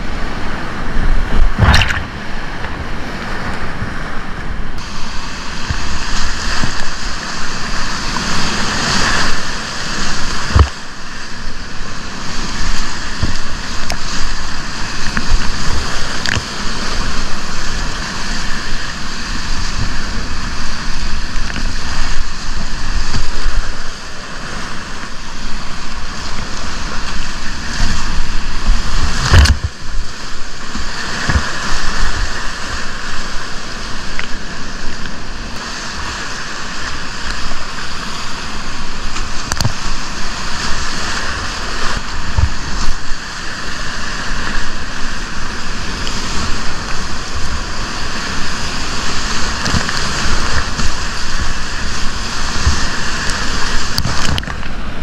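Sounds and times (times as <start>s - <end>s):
whitewater rapids rushing: 0.0s - 55.0s.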